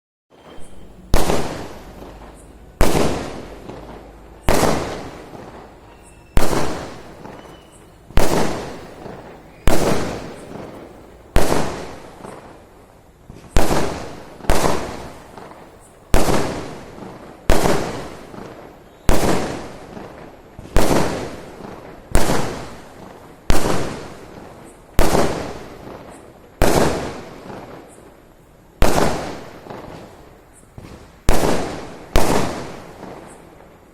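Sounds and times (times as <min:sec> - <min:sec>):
firecracker bangs with echo: 0:00.3 - 0:12.7, 0:13.3 - 0:28.0, 0:28.8 - 0:33.6.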